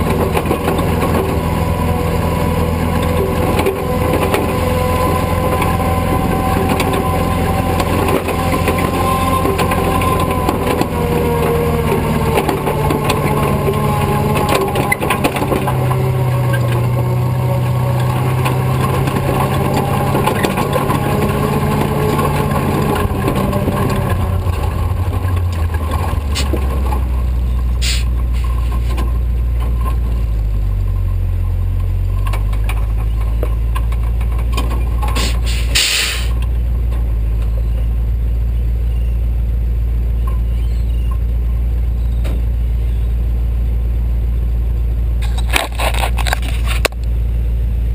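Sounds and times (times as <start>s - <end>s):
truck engine under load: 0.0s - 47.9s.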